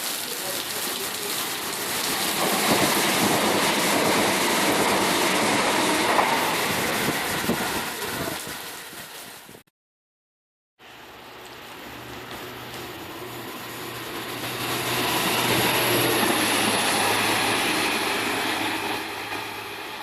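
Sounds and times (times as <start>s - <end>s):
train wheels clattering on rails: 0.5s - 9.2s, 12.2s - 20.0s.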